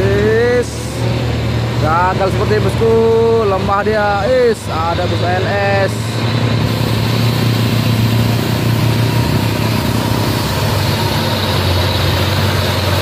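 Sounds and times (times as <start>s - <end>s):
diesel engine low drone: 0.0s - 13.0s.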